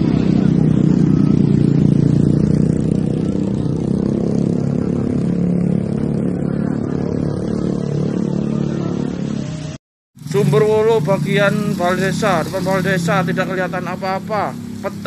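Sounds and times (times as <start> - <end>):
motorbike and car traffic: 0.0 - 15.0.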